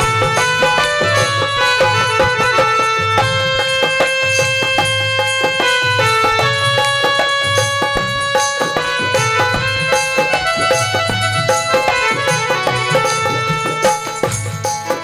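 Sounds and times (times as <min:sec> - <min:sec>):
dholak drum beat: 0:00.0 - 0:15.0
melody of held notes: 0:00.0 - 0:15.0.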